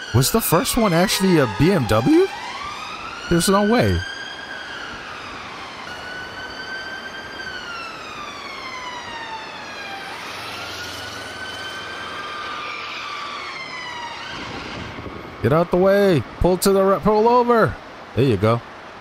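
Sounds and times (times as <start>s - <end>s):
ambulance siren wailing: 0.0s - 16.4s
street traffic: 0.0s - 19.0s.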